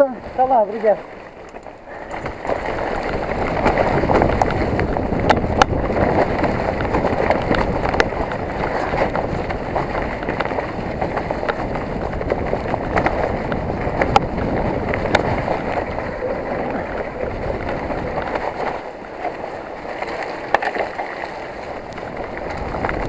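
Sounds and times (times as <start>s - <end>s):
bike clicks and rattles: 0.0s - 23.0s
bike tyres rolling on trail: 0.0s - 23.0s
wind on microphone: 0.0s - 23.0s.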